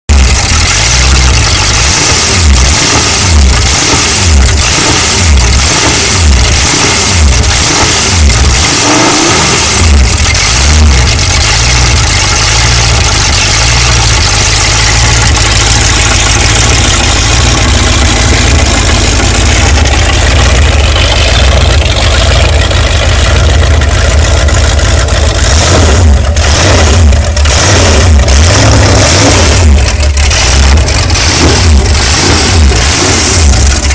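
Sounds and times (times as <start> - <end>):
boat engine revving: 0.1 - 33.9.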